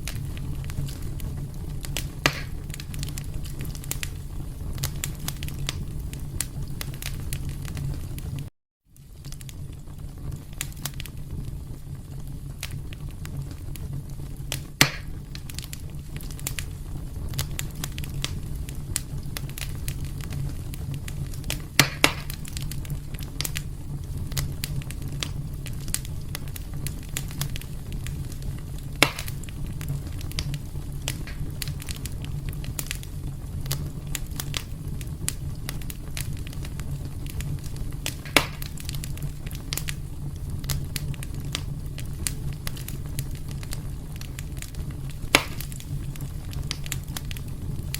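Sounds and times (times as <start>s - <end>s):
loud pops from fire: 0.0s - 47.9s
wood fire crackling: 0.0s - 47.9s.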